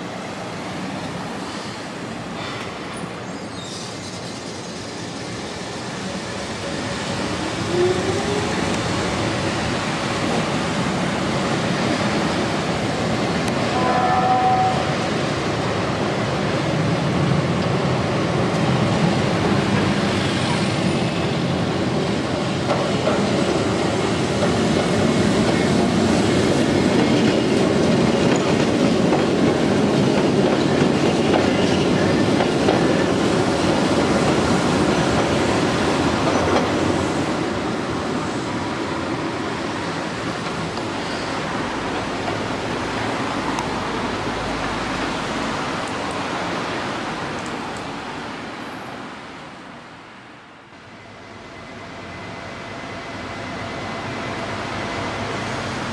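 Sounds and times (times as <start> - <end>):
electric tram running on street track: 0.0 - 55.9.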